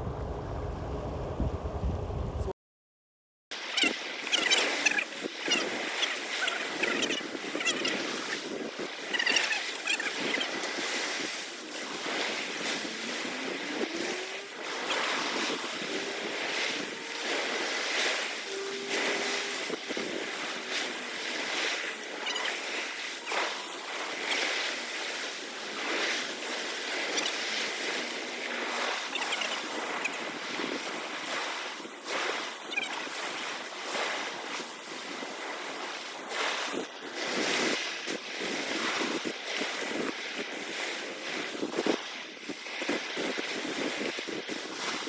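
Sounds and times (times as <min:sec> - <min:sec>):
wind gusts on microphone: 0:00.0 - 0:02.5, 0:03.6 - 0:45.0
sea waves washing: 0:03.6 - 0:45.0.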